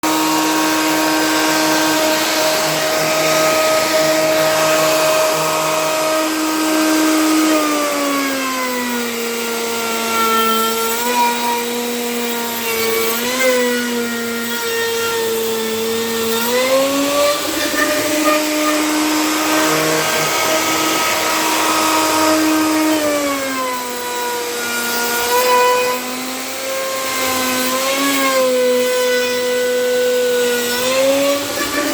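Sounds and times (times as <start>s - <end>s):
power tool whining in wood: 0.0s - 31.9s.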